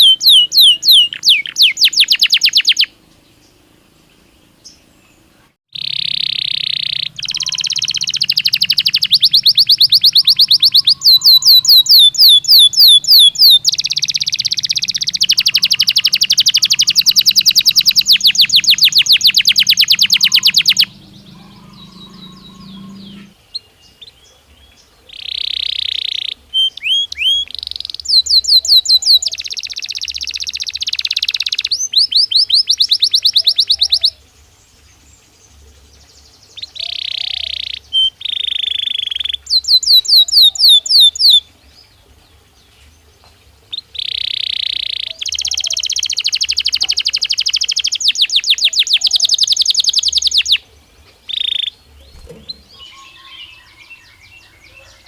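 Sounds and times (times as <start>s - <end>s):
canary singing trills: 0.0s - 3.6s, 4.2s - 42.5s, 43.4s - 55.0s.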